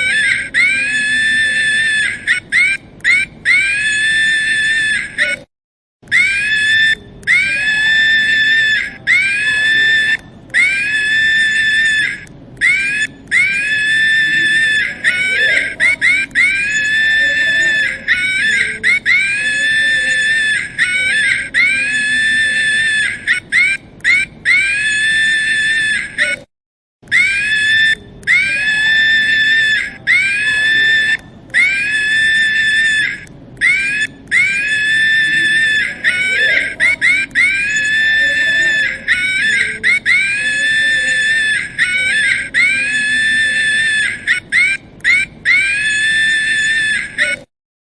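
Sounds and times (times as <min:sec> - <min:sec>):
chimpanzee screaming: 0:00.0 - 0:05.4, 0:06.1 - 0:26.4, 0:27.1 - 0:47.5.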